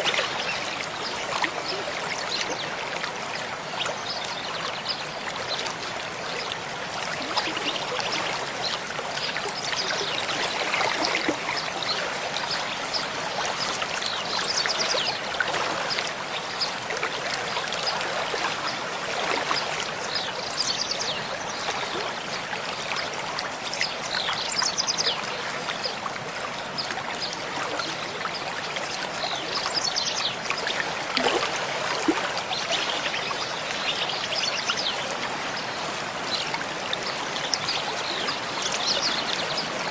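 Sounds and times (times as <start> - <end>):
small water splashes: 0.0 - 39.9
stream of water babbling: 0.0 - 39.9.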